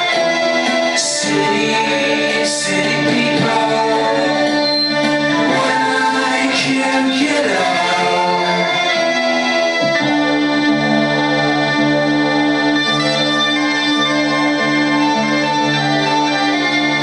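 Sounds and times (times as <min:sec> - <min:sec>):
organ-like keyboard chords: 0:00.0 - 0:17.0.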